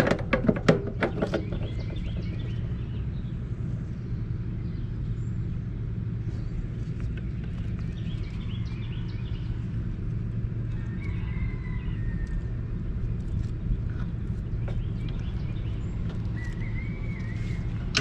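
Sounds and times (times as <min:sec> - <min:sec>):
low machine hum: 0:00.0 - 0:18.0
birds chirping: 0:00.8 - 0:18.0.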